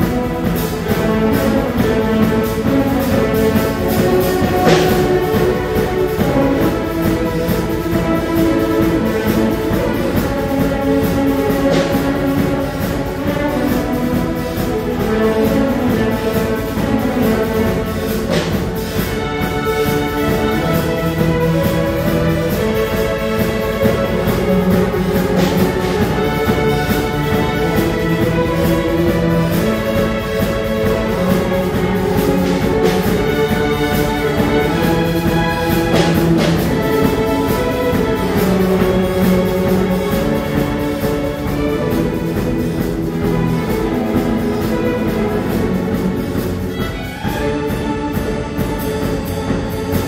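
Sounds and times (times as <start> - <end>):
orchestral music with held notes: 0.0 - 50.0.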